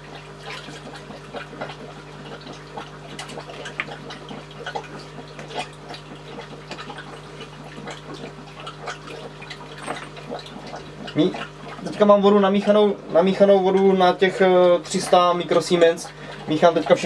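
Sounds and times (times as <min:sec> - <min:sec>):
steady low hum: 0:00.0 - 0:17.0
water splashing into plastic bowl: 0:00.0 - 0:17.0.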